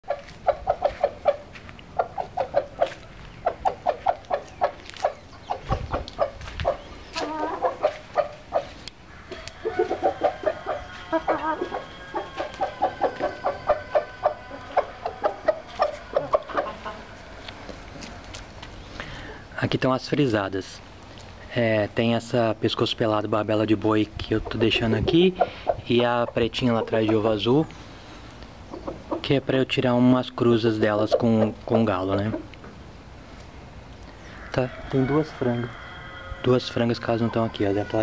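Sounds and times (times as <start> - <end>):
chickens clucking: 0.0 - 19.5, 23.8 - 38.0
chickens wavering calls: 0.0 - 19.5, 24.2 - 29.5, 30.8 - 38.0.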